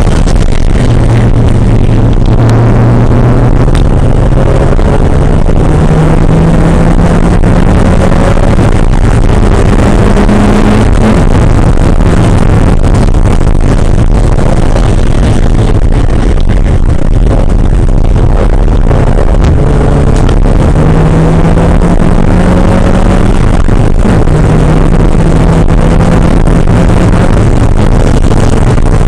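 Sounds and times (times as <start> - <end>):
car engine revving hard: 0.0 - 29.0.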